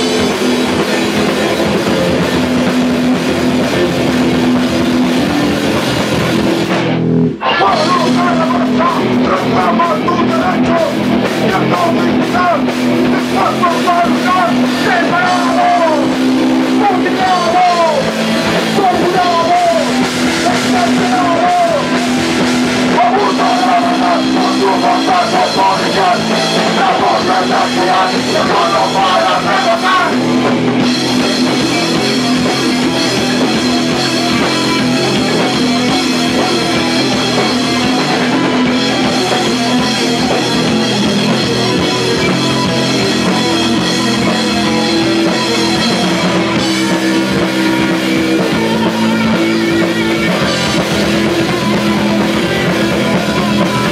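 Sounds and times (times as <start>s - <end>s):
bass guitar: 0.0s - 53.9s
drum kit: 0.0s - 53.9s
electric guitar: 0.0s - 53.9s
person singing: 7.4s - 53.9s.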